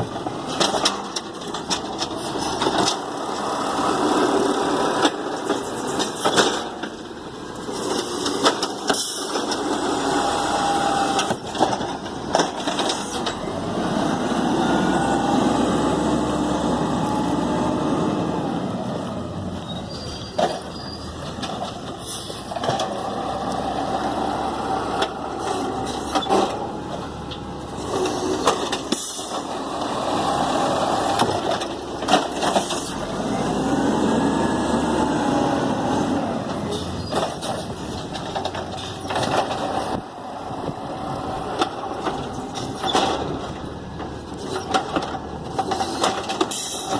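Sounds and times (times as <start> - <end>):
garbage truck diesel engine revving: 0.0 - 19.7, 22.0 - 46.9.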